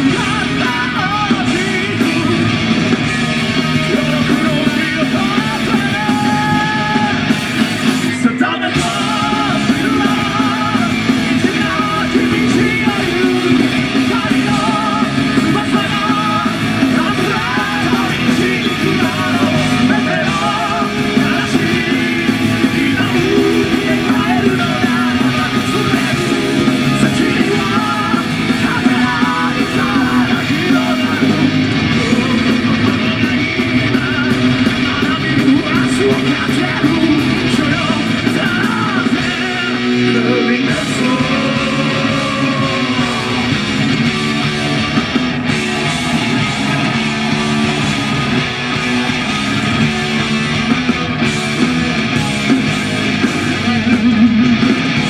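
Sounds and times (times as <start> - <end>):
man singing: 0.0 - 7.3, 8.0 - 44.3, 53.1 - 54.9
heavy metal band playing: 0.0 - 55.0.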